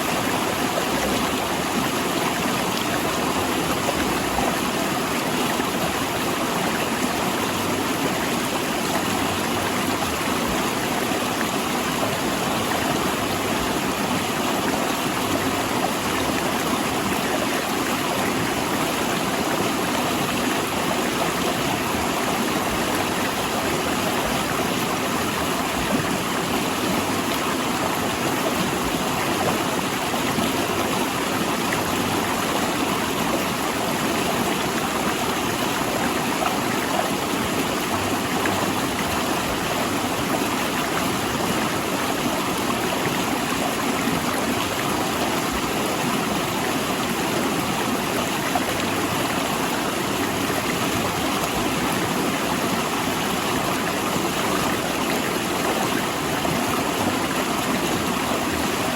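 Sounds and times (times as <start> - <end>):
river water rushing over rocks: 0.0 - 58.9.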